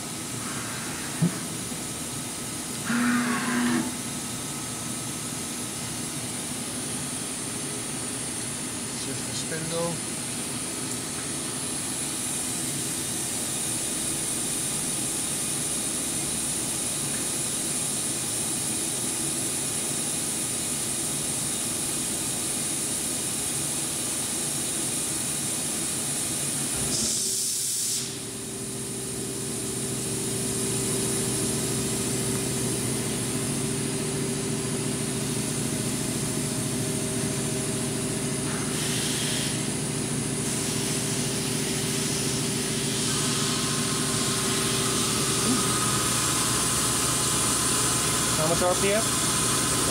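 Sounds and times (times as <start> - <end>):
machining center hiss and whine: 0.0 - 49.9
steady machine hum: 0.0 - 49.9.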